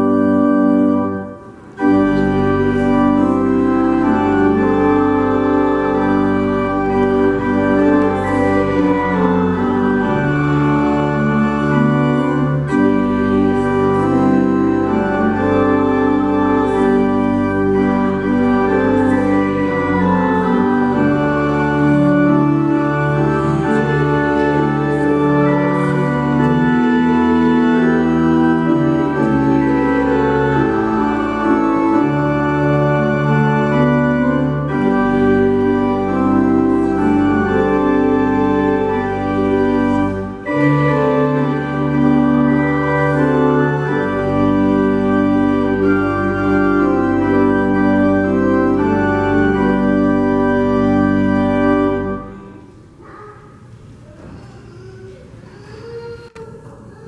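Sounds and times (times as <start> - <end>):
church organ chords: 0.0 - 53.0.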